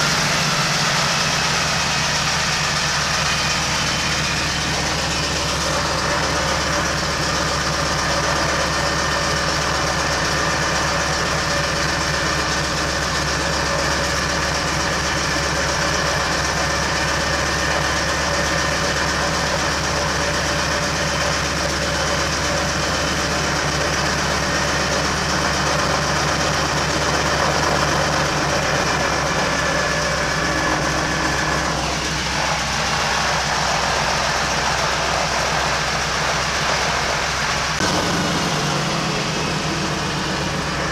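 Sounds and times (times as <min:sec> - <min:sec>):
propeller plane engine taxiing: 0:00.0 - 0:40.9.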